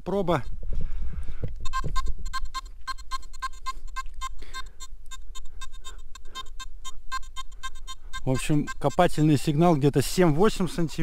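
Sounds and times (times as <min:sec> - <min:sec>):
metal detector short beeps: 0:01.6 - 0:11.0.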